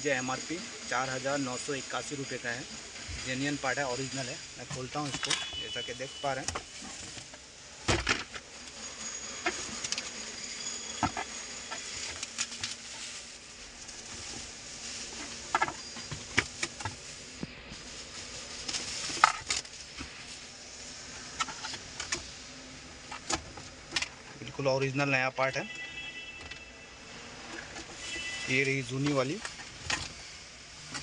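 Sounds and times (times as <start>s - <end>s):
bubble wrap and cardboard crinkling: 1.0s - 25.6s, 26.5s - 31.0s.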